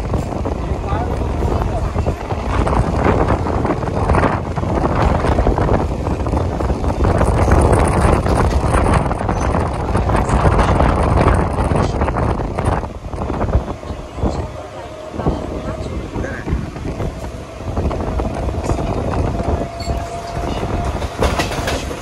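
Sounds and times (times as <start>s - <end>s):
train wheels rumbling on track: 0.0s - 22.0s
wind buffeting microphone: 0.0s - 22.0s.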